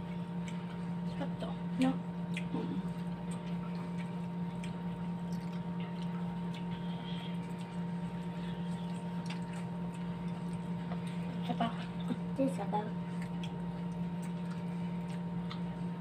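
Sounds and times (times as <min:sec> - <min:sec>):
eating and chewing: 0:00.0 - 0:16.0
steady low hum: 0:00.0 - 0:16.0.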